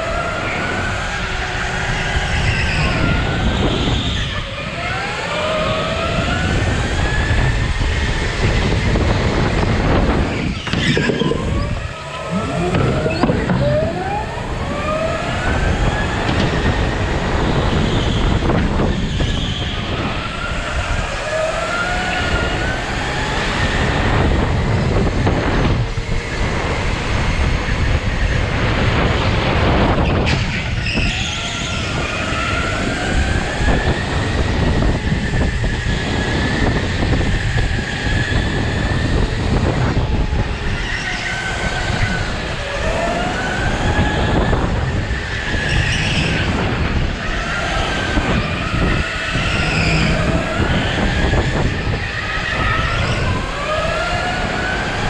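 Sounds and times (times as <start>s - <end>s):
go-kart motor whining: 0.0s - 55.0s
rumble of tyres and wind: 0.0s - 55.0s.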